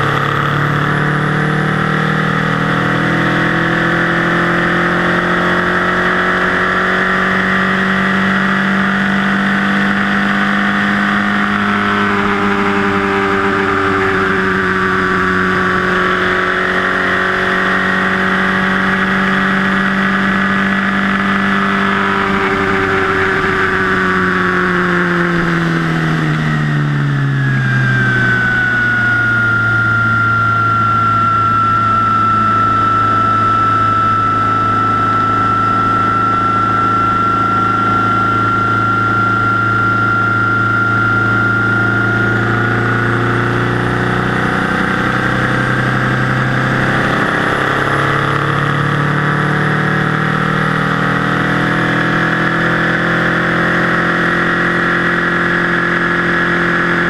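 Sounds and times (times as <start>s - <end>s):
car engine running hard: 0.0s - 57.0s
high turbo whine: 0.0s - 57.0s.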